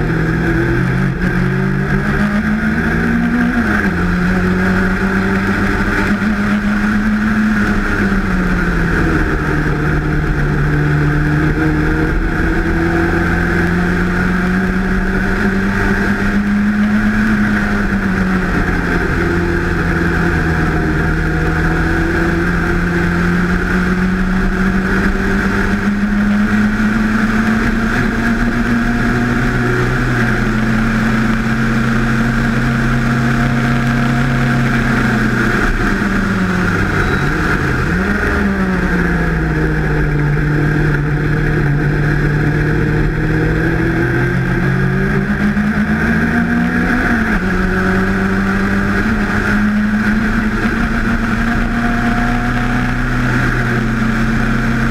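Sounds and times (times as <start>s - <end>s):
race car engine at full throttle: 0.0s - 54.9s.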